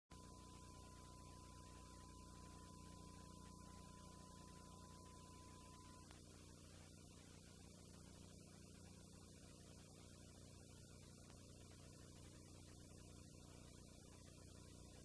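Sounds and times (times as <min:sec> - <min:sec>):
faint mains hum and hiss: 0:00.1 - 0:15.0
faint steady high tone: 0:00.1 - 0:15.0.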